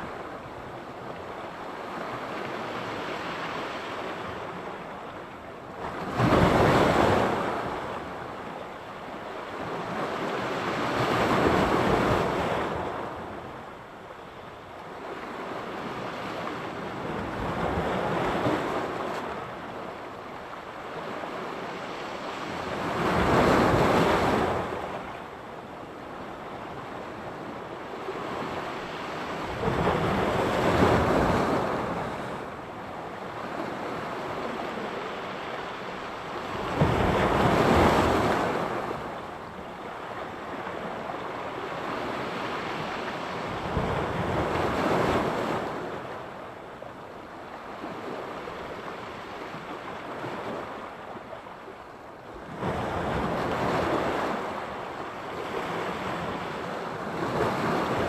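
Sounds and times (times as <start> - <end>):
waves breaking on the shore: 0.0 - 58.0.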